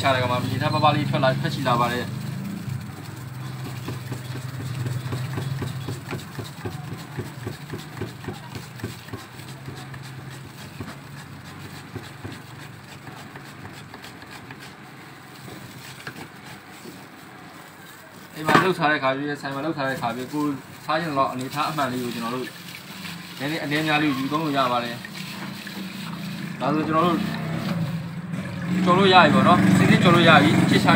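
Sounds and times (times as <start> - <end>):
potato rasping on slicer blade: 0.1 - 18.5, 19.5 - 28.1.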